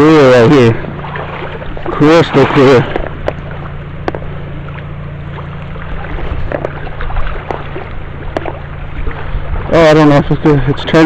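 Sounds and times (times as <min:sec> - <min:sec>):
low motor hum: 0:00.0 - 0:11.0
water noise: 0:00.0 - 0:11.0.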